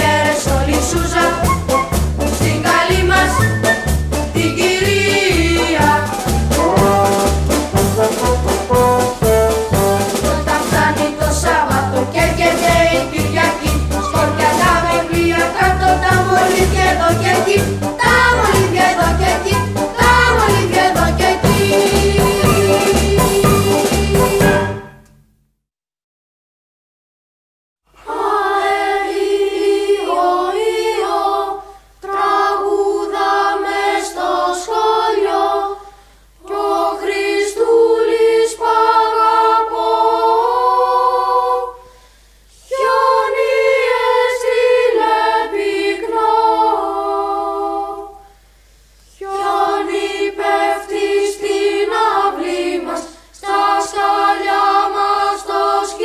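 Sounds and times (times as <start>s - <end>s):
children's choir singing: 0.0s - 25.0s, 28.0s - 35.8s, 36.4s - 41.9s, 42.6s - 48.3s, 49.1s - 56.0s.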